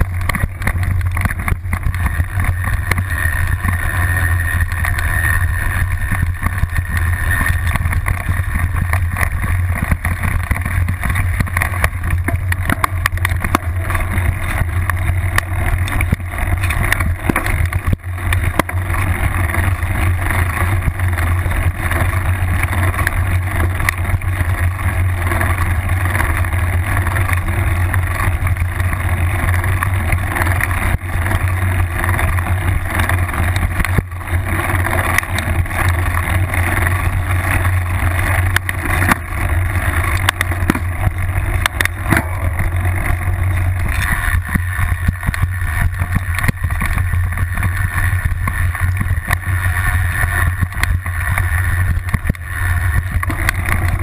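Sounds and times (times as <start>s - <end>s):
bike knocks and rattles: 0.0s - 54.0s
bike rumbling on dirt trail: 0.0s - 54.0s.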